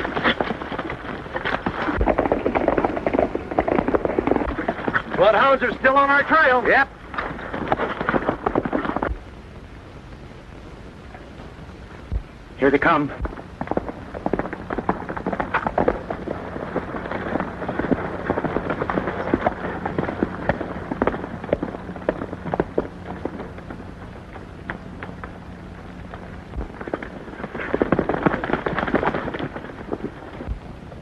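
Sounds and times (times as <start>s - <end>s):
horses galloping: 0.0s - 9.3s, 11.0s - 31.0s.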